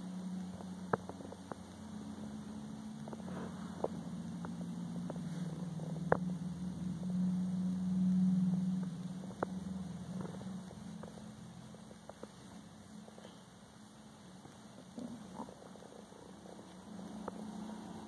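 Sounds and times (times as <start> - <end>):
kitten purring loudly: 0.0 - 18.0.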